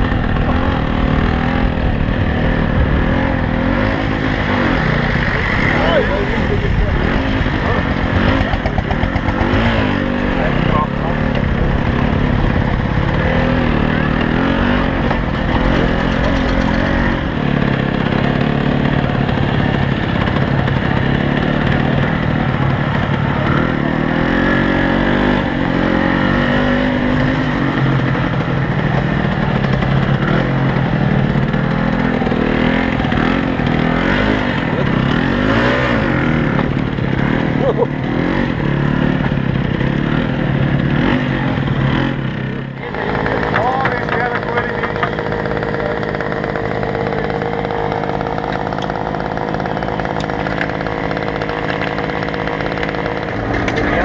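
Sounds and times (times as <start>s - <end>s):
crowd voices: 0.0s - 54.0s
engines running loudly: 0.0s - 54.0s.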